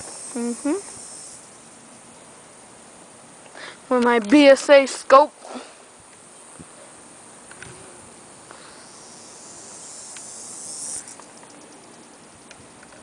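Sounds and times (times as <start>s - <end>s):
high insect buzz: 0.0s - 5.2s, 5.8s - 13.0s.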